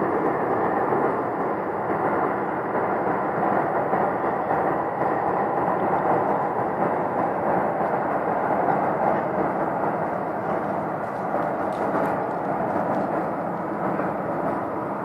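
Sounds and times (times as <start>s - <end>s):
steady rumbling noise: 0.0s - 15.0s.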